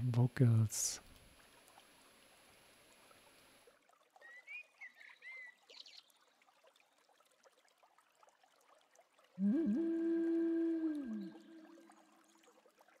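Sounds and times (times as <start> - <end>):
soft trickling water: 0.0 - 13.0.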